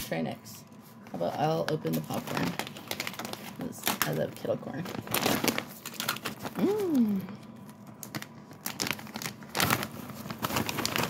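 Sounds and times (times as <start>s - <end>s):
popcorn rustling: 0.8s - 11.0s
plastic snack bag crinkling: 1.2s - 11.0s.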